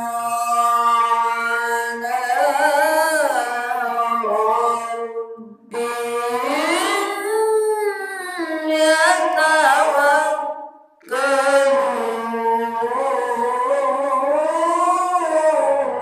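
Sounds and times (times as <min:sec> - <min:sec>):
person chanting melodic recitation: 0:00.0 - 0:16.0.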